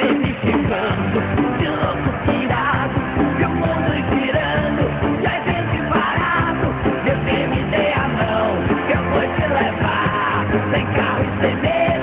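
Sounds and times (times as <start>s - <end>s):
rock song with male vocals: 0.0s - 12.0s.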